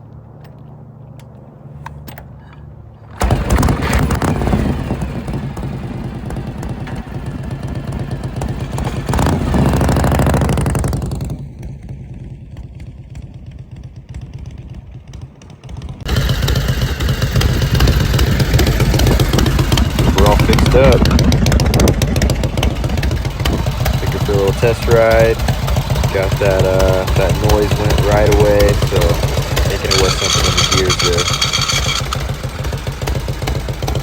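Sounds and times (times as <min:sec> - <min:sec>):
motorcycle engine running: 0:03.2 - 0:34.0.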